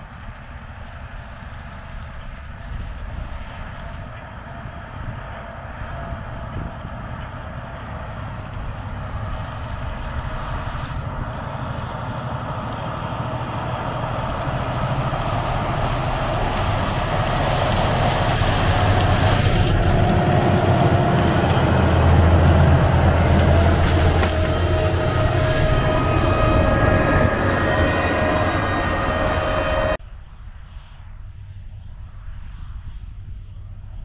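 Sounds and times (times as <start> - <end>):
tractor engine hum: 0.0 - 30.0.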